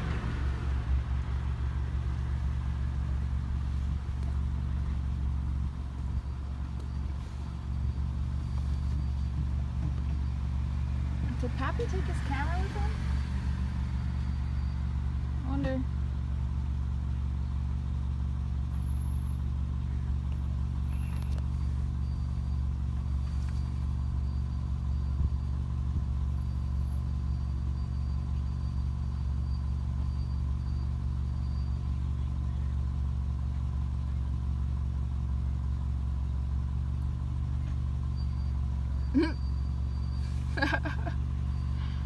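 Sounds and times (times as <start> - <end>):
vehicle engine droning: 0.0 - 42.0.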